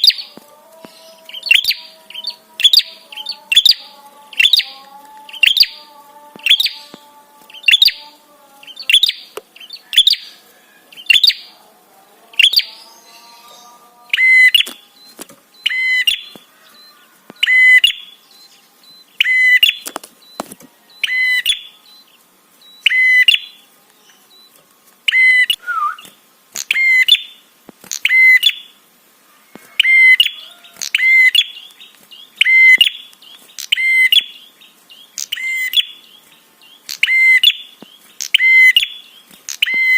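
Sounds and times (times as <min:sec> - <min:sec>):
bird chirping call: 0:00.0 - 0:11.6, 0:12.2 - 0:28.8, 0:29.6 - 0:39.9.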